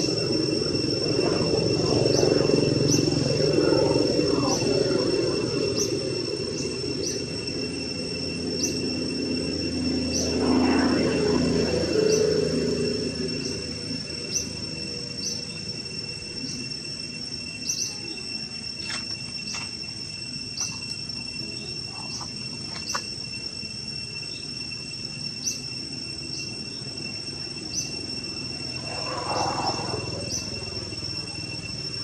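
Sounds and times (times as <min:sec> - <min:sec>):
insects buzzing high-pitched: 0:00.0 - 0:32.0.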